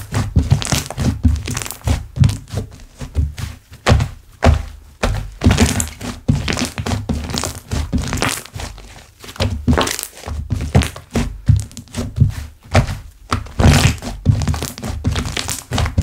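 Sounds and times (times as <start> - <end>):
hands squishing slime: 0.0 - 16.0.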